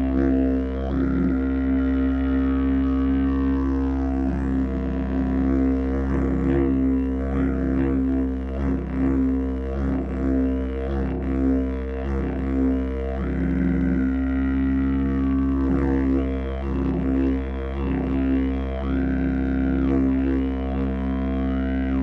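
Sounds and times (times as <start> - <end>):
didgeridoo drone: 0.0 - 22.0.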